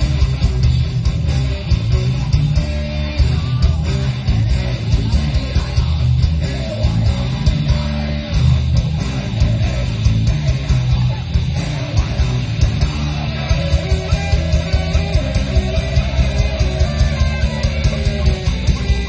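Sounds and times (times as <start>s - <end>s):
guitars strumming: 0.0s - 19.0s
heavy bass line: 0.0s - 19.0s.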